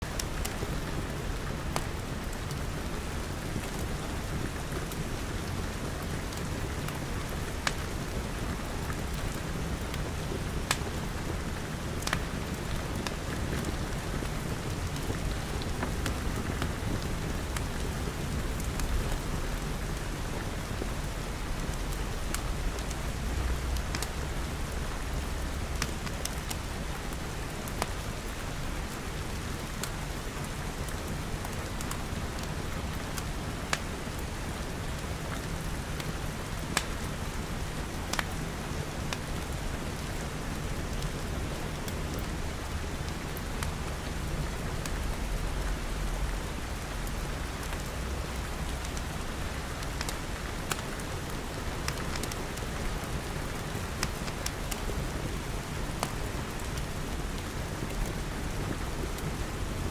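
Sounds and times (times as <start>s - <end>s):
rain pattering on glass: 0.0s - 59.9s
wood fire crackling: 0.0s - 59.9s.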